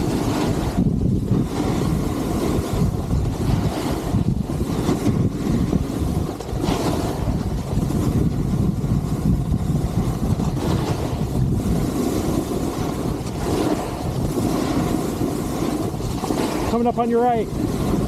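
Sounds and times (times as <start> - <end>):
skis hissing over snow: 0.0 - 18.0
wind rushing over microphone: 0.0 - 18.0.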